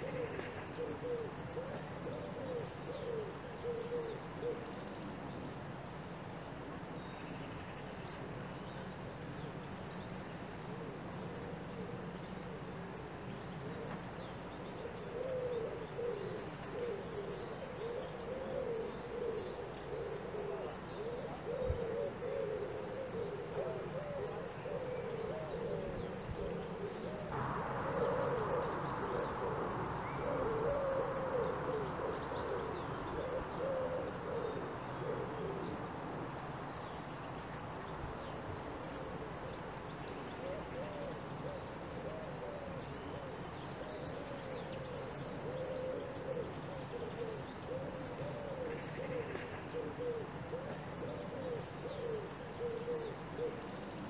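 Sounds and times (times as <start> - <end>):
soft rushing hiss: 0.0 - 54.0.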